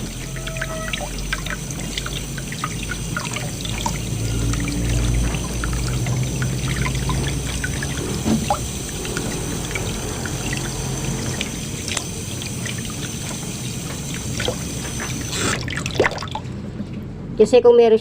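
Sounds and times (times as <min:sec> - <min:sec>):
water pouring and trickling: 0:00.0 - 0:16.6.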